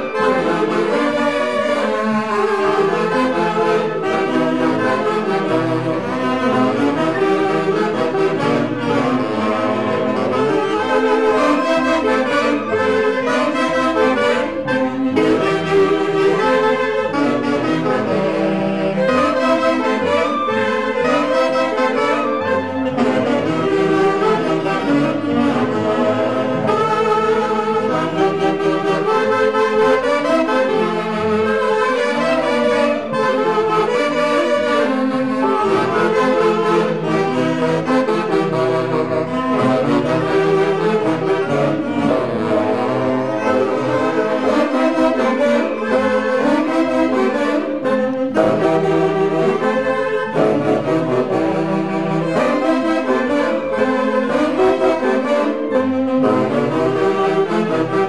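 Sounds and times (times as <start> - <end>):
clarinets and saxophones playing: 0.0 - 58.0.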